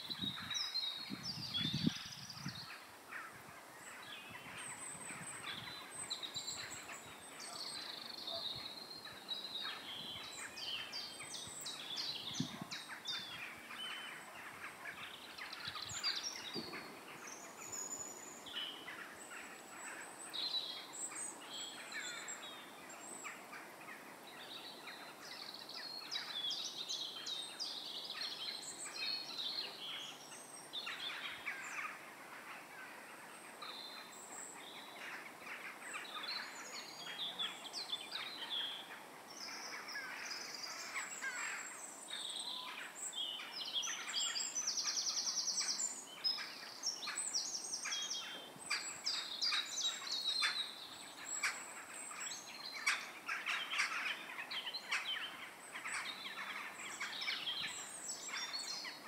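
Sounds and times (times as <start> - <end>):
songbirds calling and singing: 0.0 - 59.0.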